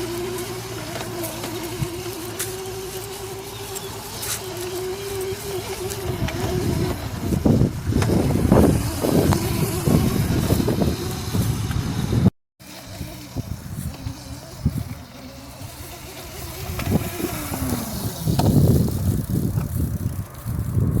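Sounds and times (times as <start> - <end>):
electric motor whine: 0.0 - 21.0.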